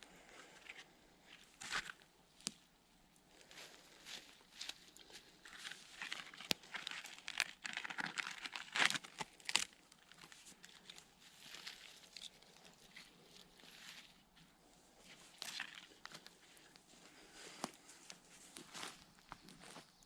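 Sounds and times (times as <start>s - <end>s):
rustling and crinkling: 0.1s - 20.0s.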